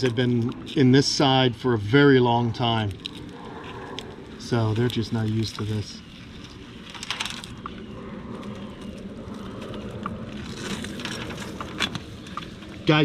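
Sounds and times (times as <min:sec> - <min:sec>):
faint hum: 0:00.0 - 0:13.0
soft rustles and scrapes: 0:00.0 - 0:13.0.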